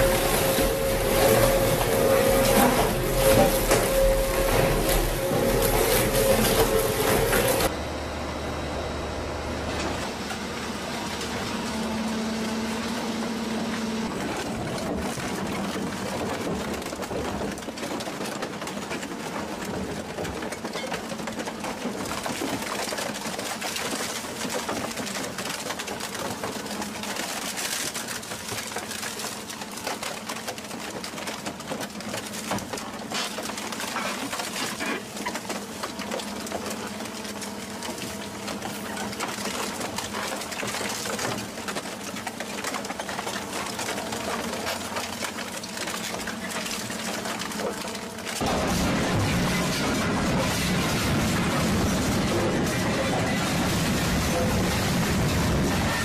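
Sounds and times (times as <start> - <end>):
shredding machine rattling: 0.0 - 7.7, 9.7 - 56.0.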